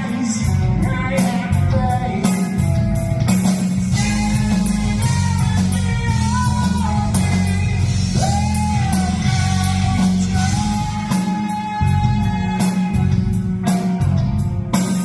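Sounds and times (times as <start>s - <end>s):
bass guitar: 0.0s - 15.0s
drums: 0.0s - 15.0s
electric guitar: 0.0s - 15.0s
sliding lead guitar melody: 0.0s - 15.0s.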